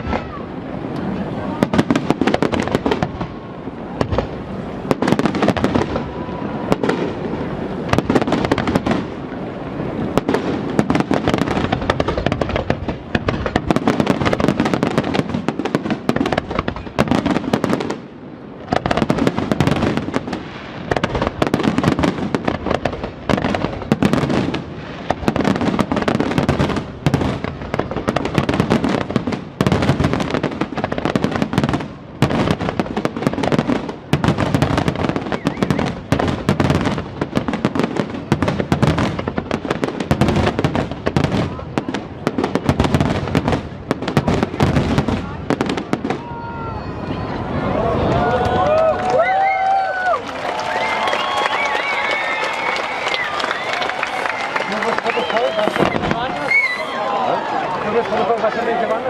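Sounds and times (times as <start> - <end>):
fireworks banging: 0.0 - 59.0.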